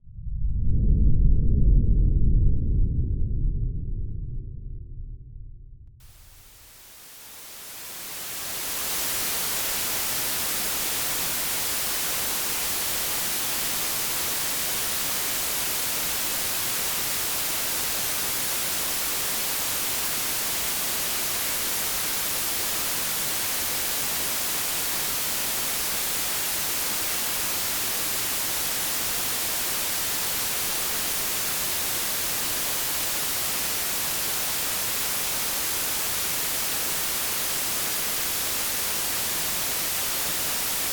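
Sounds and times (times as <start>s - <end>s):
white noise static hiss: 6.0s - 40.9s.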